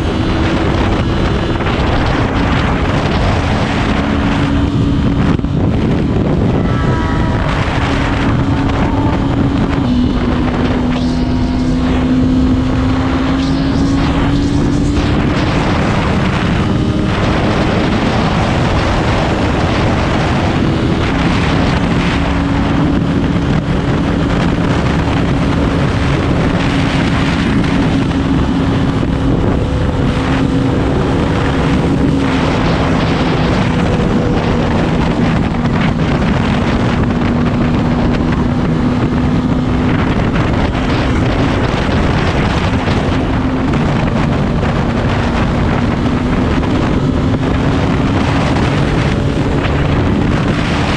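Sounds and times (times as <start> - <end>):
motorcycle engine cruising: 0.0 - 50.9
wind buffeting microphone: 0.0 - 50.9.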